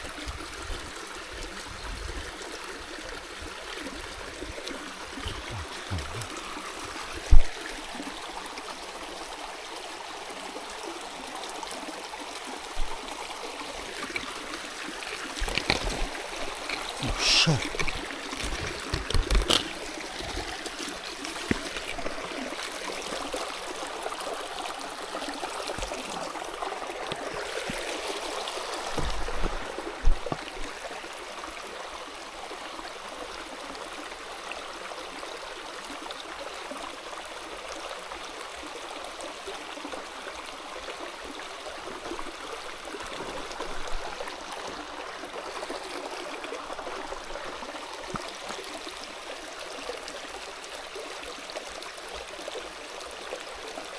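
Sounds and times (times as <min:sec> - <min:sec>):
stream water running over rocks: 0:00.0 - 0:53.9.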